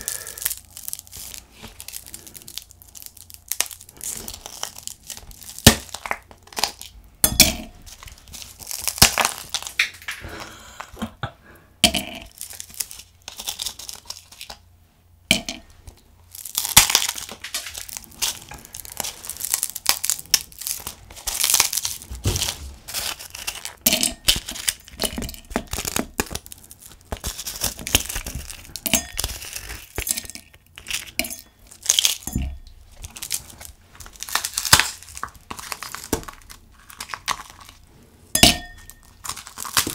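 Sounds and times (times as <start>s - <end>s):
ice cubes cracking: 0.0s - 7.0s, 7.8s - 11.0s, 12.1s - 14.6s, 16.3s - 37.8s, 38.4s - 39.9s.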